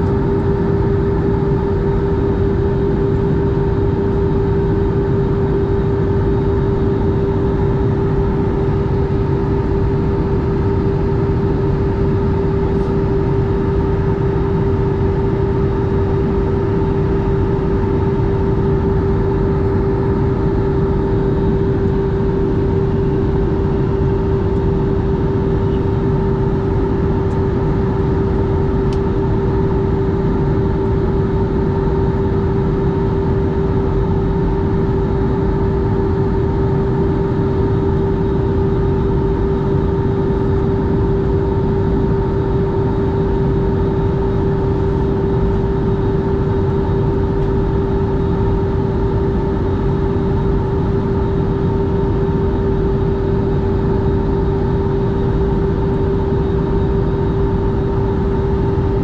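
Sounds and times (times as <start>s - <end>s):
jet airliner cabin noise: 0.0s - 59.0s.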